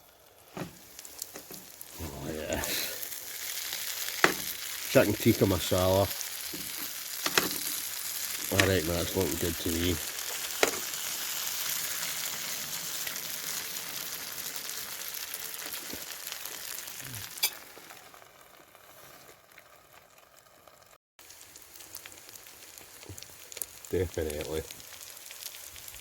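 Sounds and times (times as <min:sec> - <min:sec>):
paste sizzling in a pan: 0:00.0 - 0:26.0.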